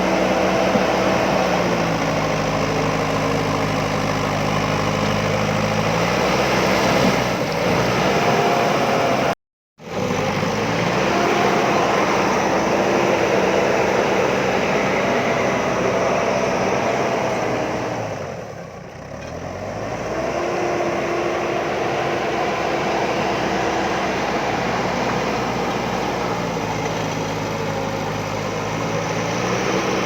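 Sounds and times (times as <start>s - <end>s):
diesel engine running: 0.0s - 6.7s, 7.5s - 18.8s, 19.6s - 30.0s.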